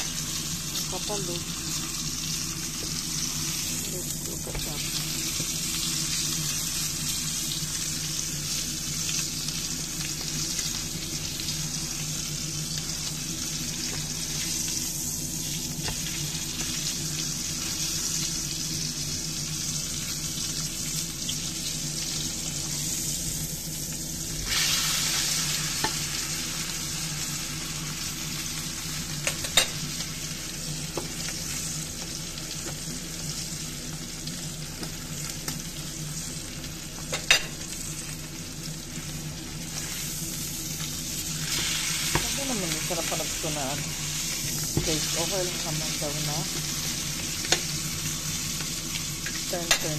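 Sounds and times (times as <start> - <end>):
steak sizzling in a skillet: 0.0 - 49.9.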